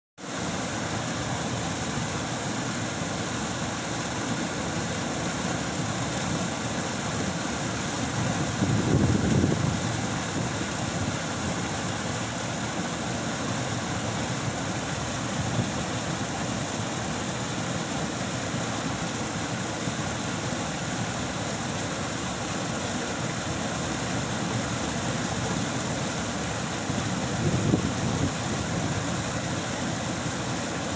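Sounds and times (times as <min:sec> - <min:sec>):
stream water flowing: 0:00.2 - 0:30.9.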